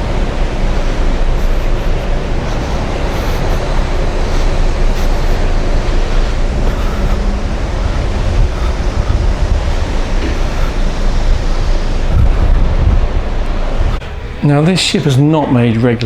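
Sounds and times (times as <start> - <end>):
loud rushing noise with rumble: 0.0 - 15.4.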